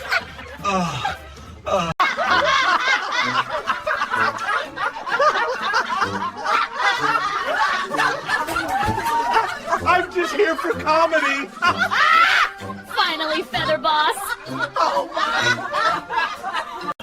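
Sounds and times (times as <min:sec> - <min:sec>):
people laughing: 0:00.0 - 0:17.0.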